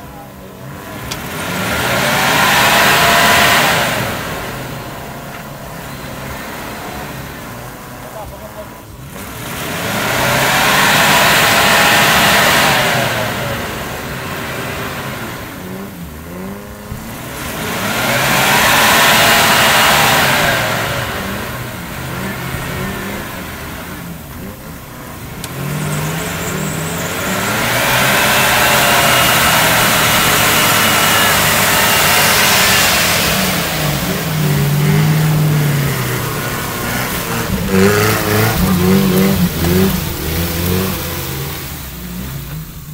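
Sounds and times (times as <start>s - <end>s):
engine revving hard: 0.0s - 42.9s
tyres churning mud: 0.0s - 42.9s.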